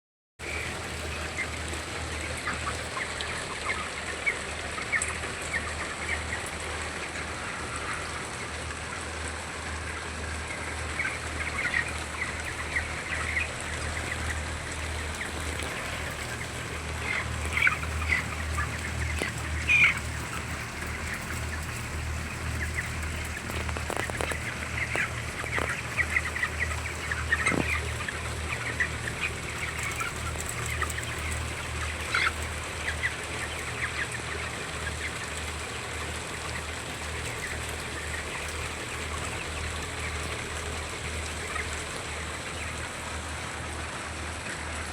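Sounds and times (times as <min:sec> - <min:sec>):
steady low hum: 0:00.4 - 0:43.7
chickens chirping and calling: 0:00.4 - 0:44.9.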